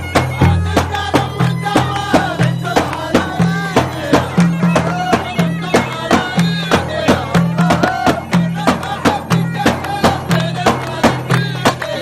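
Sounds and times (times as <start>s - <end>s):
folk-like music with steady beat: 0.0s - 12.0s.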